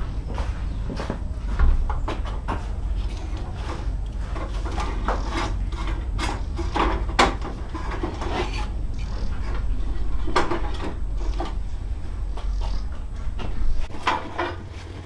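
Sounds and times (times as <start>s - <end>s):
steady low rumble: 0.0s - 14.8s
wood knocking and scraping: 0.3s - 15.0s.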